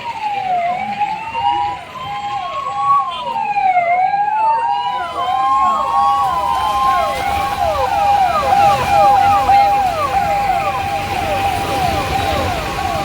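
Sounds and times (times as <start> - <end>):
emergency vehicle sirens wailing: 0.0 - 13.0.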